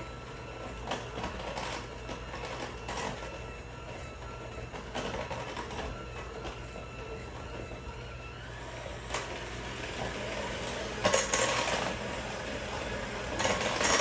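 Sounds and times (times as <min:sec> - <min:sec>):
electric mixer motor whine: 0:00.0 - 0:14.0.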